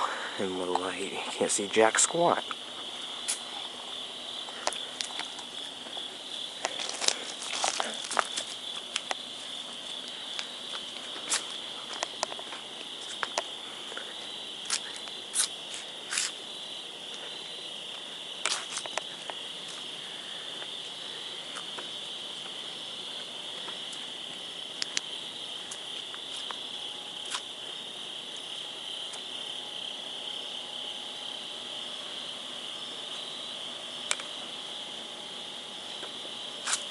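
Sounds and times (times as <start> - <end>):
crickets chirring: 0.0 - 36.9.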